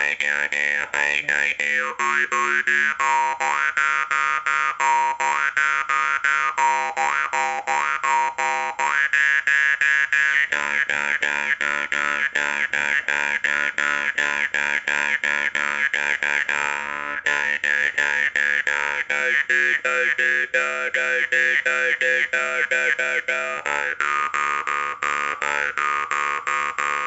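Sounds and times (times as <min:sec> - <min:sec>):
jaw harp playing: 0:00.0 - 0:27.0.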